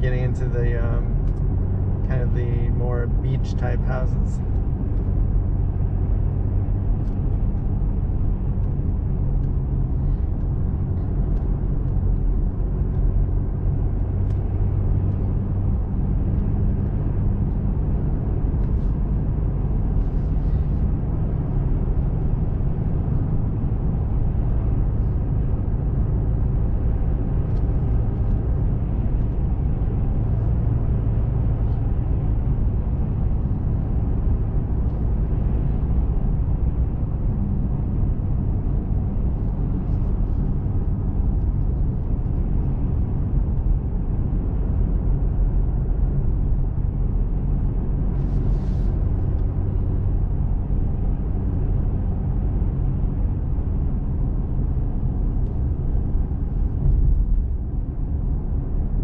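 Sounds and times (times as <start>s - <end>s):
car engine hum: 0.0s - 59.0s
tyre road noise: 0.0s - 59.0s.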